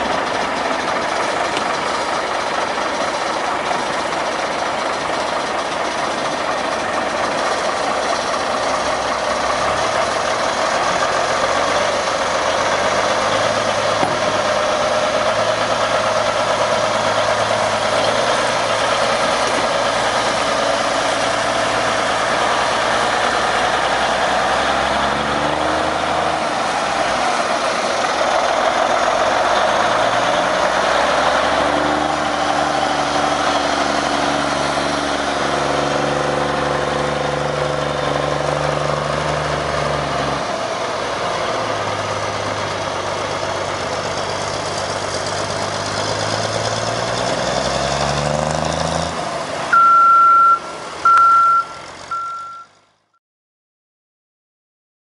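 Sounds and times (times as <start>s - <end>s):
truck diesel engine pulling away: 0.0s - 53.0s.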